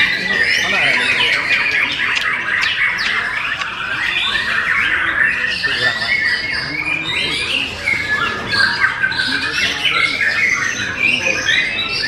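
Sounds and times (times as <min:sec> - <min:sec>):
birds singing whistles and chirps: 0:00.0 - 0:12.0.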